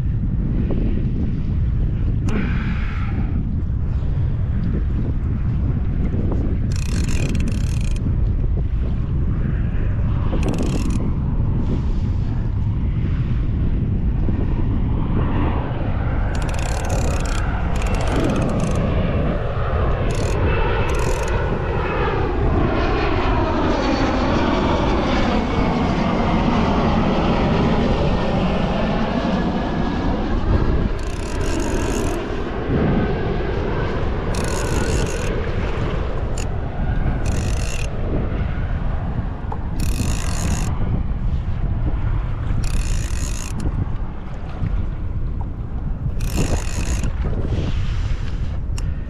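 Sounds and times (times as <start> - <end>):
droning engine: 0.0 - 49.0
wind rumble on microphone: 0.0 - 49.0.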